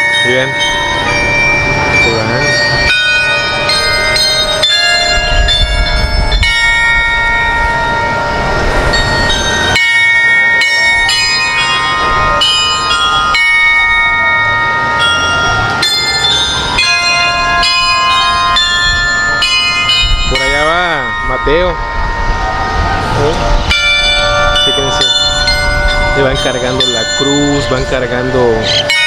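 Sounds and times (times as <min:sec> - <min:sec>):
carillon bells playing a melody: 0:00.0 - 0:29.0.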